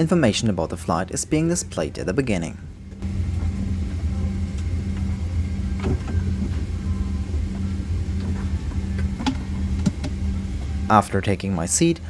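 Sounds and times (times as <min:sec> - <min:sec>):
low cabin hum: 0:00.0 - 0:12.0.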